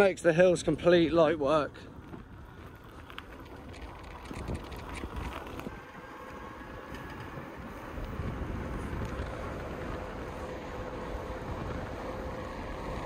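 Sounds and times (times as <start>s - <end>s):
bike rolling rumble: 0.0s - 13.0s
wind buffeting microphone: 0.0s - 13.0s.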